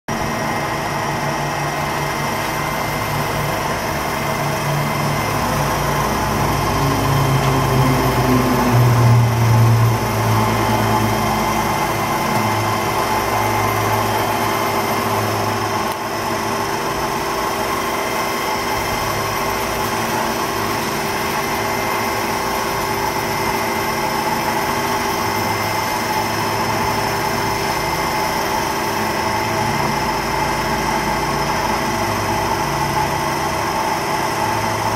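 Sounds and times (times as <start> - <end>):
grinder machine hum: 0.1 - 34.9
low machine drone: 0.1 - 34.9.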